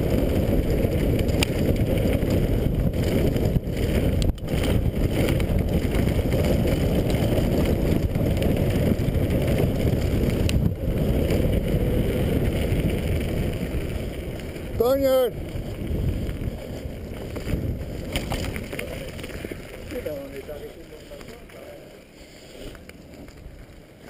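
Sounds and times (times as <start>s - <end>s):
bike tyres rumbling on gravel: 0.0s - 24.0s
wind buffeting microphone: 0.0s - 24.0s.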